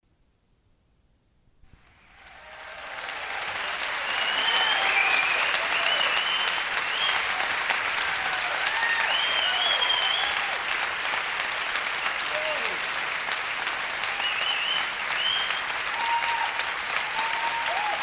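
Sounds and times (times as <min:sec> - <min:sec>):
audience applauding: 0:01.8 - 0:18.0.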